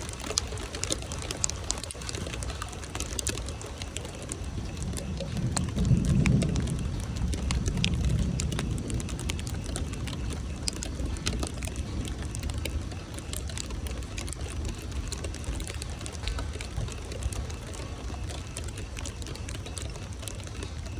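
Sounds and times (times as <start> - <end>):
drops ticking on surfaces: 0.0 - 20.9
steady rain: 0.0 - 20.9
thunder rumble: 0.0 - 20.9.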